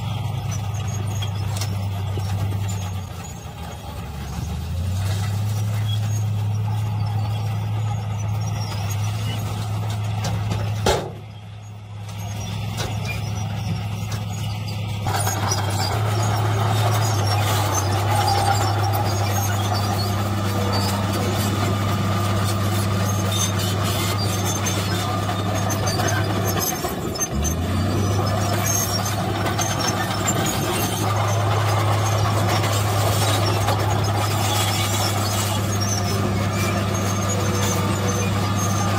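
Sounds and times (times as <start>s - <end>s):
bulldozer engine under load: 0.0s - 38.9s
dump truck diesel engine: 0.0s - 38.9s.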